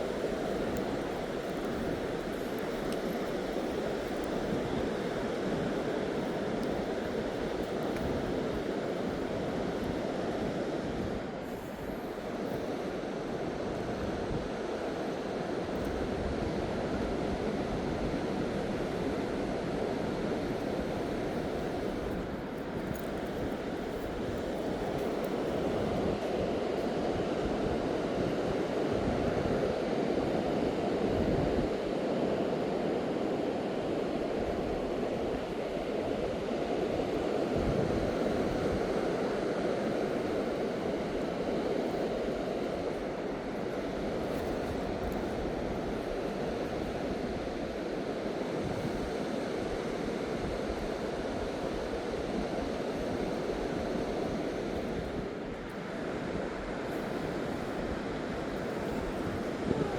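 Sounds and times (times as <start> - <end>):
wind buffeting the microphone: 0.0 - 59.9.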